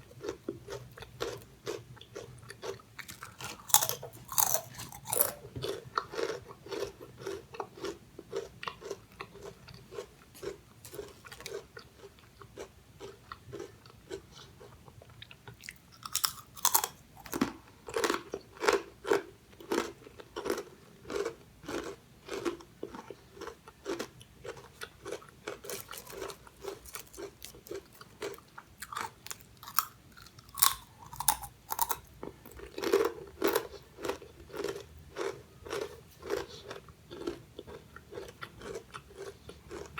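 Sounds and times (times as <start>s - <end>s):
crunching and chewing of crisp chips: 0.0s - 39.9s.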